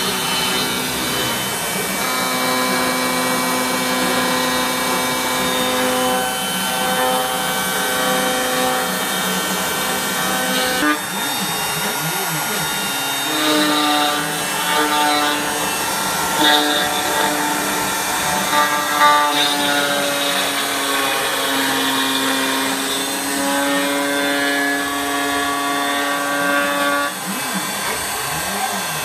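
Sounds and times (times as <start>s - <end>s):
router spindle whining: 0.0s - 29.0s.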